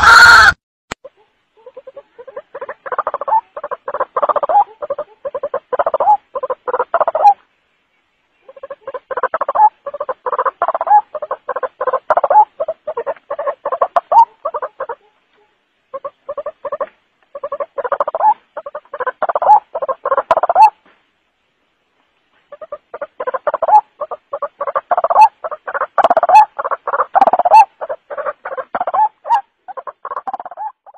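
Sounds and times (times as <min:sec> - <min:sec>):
waterhen harsh croaking calls: 0:00.0 - 0:07.4, 0:08.4 - 0:20.8, 0:22.5 - 0:30.9.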